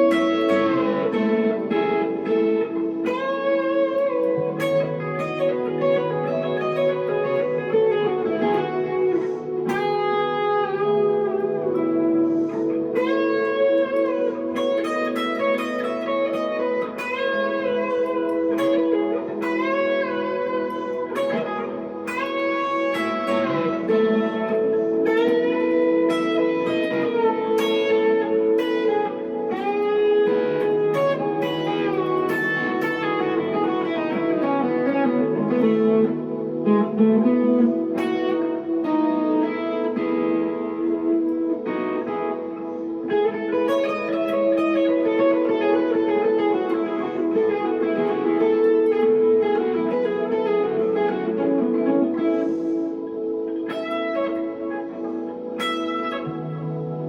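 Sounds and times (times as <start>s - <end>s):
electric guitar playing: 0.0s - 57.0s.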